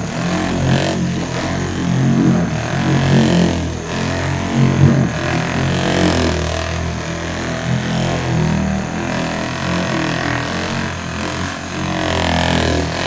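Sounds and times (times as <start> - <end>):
electric polisher motor humming: 0.0 - 13.0.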